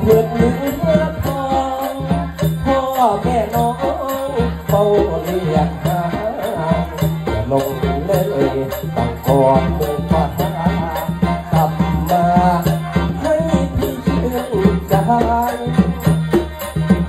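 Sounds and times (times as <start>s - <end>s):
band music through a pa: 0.0s - 17.0s.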